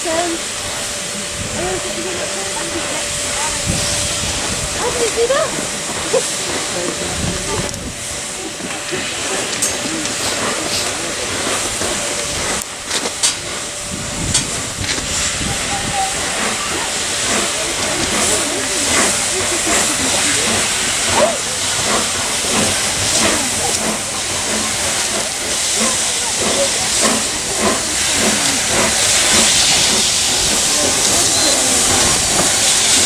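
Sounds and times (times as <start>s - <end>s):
steam locomotive hissing: 0.0s - 33.0s.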